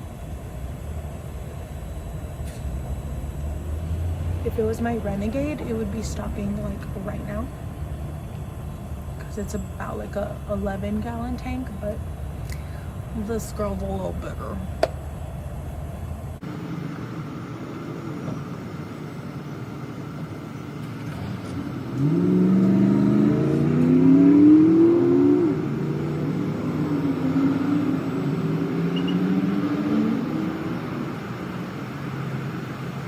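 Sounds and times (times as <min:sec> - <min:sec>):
car engine accelerating: 0:01.5 - 0:14.6, 0:15.9 - 0:33.0.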